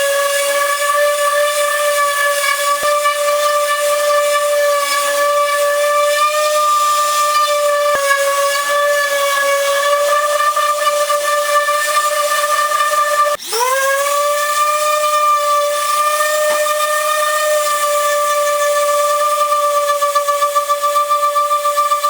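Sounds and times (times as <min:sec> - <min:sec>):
power sander whining: 0:00.0 - 0:22.0.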